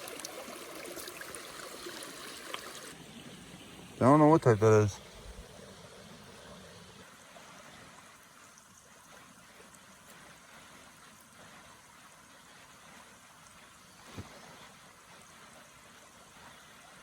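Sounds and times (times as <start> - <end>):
creek trickling: 0.0 - 17.0.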